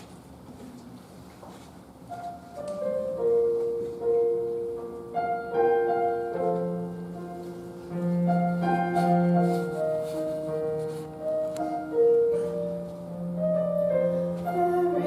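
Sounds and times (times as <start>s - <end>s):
piano playing held chords: 2.1s - 15.0s.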